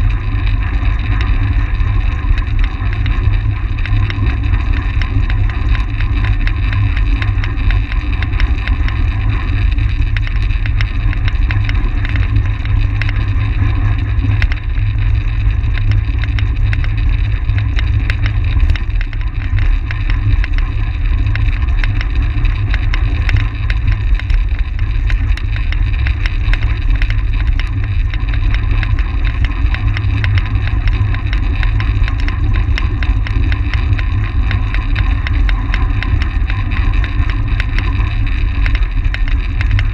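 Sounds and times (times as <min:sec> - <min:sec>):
crackle of small ticks: 0:00.0 - 0:39.9.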